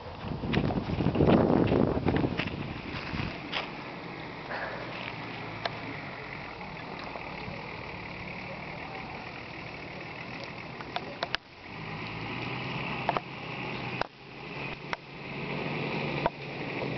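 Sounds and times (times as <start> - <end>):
off-road vehicle engine running: 0.0 - 16.9.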